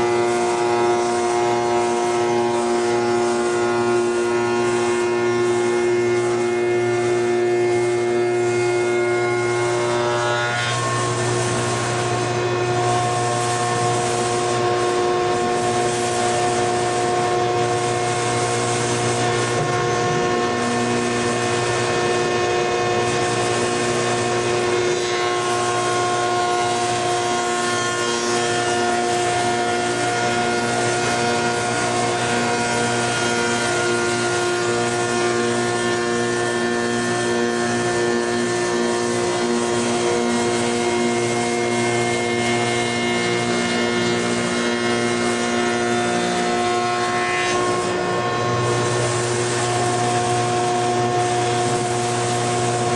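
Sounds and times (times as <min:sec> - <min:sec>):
dust collector air rush: 0:00.0 - 0:52.9
woodworking machine humming: 0:00.0 - 0:52.9.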